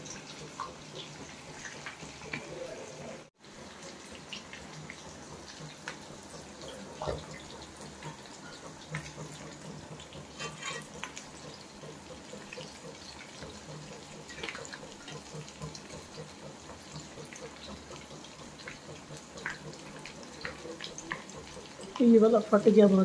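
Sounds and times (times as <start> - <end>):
food deep-frying in oil: 0.0 - 23.0
oil popping and crackling: 4.1 - 22.5.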